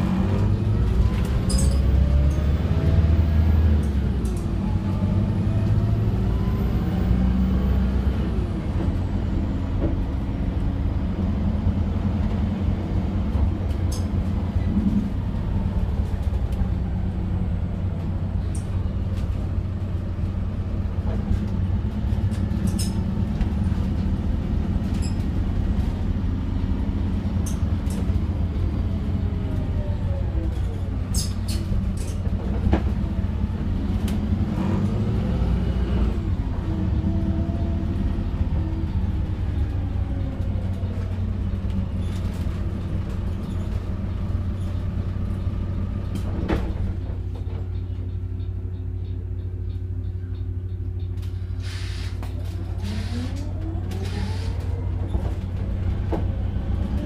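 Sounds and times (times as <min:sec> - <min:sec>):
bus drivetrain and road rumble: 0:00.0 - 0:57.0.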